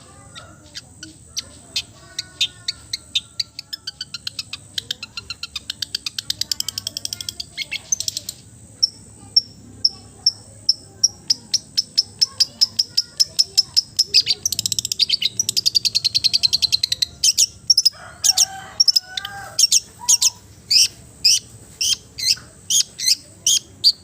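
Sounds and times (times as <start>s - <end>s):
songbird chattering chips: 0.2s - 24.0s.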